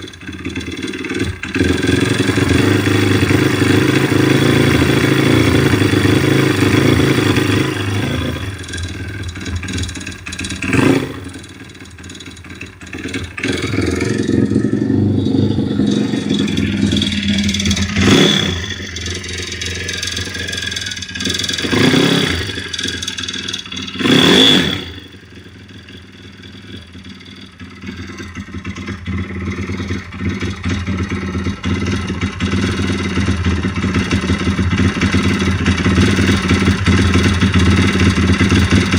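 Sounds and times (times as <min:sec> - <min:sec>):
engine revving and idling: 0:00.0 - 0:38.9.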